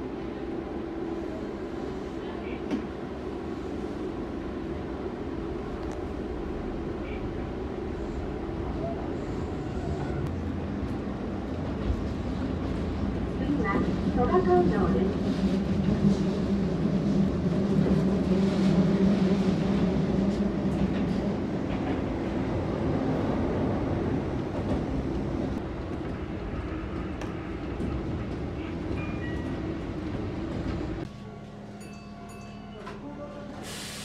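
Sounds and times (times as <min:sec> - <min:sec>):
train wheels rumbling on rails: 0:01.8 - 0:31.1.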